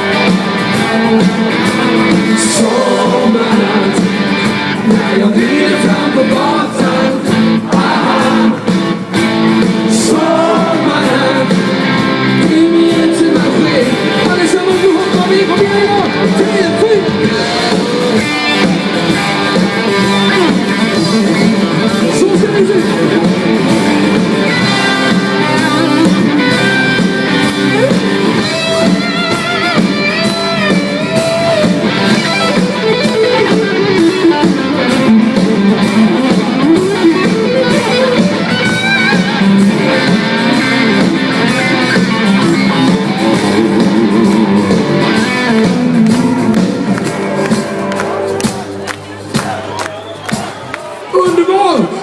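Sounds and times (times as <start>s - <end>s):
lead electric guitar melody: 0.0s - 48.9s
live rock band playing: 0.0s - 52.0s.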